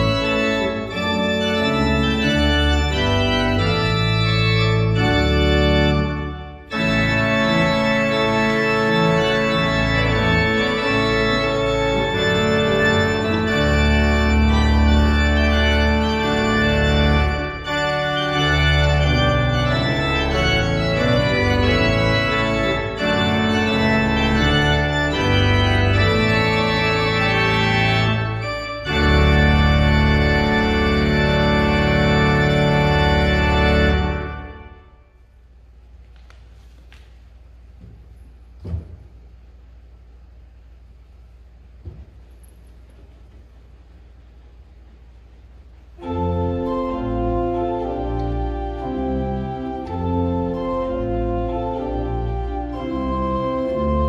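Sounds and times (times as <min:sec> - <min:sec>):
church organ playing chords: 0:00.0 - 0:36.0, 0:37.6 - 0:54.0.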